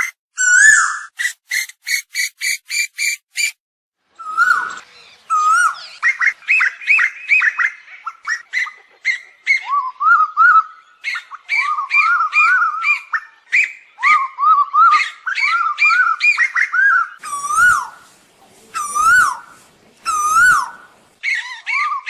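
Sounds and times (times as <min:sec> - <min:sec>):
bird whistling calls: 0:00.0 - 0:03.6, 0:04.2 - 0:22.0.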